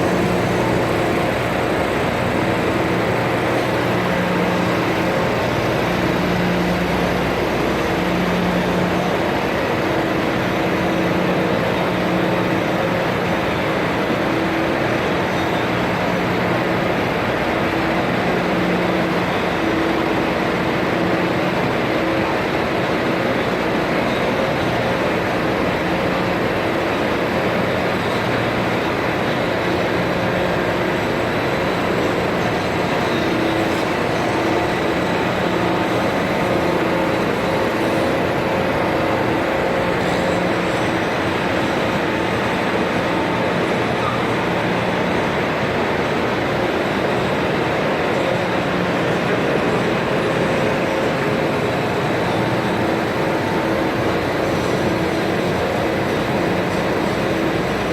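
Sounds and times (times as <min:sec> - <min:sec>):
industrial machinery hum: 0:00.0 - 0:57.9.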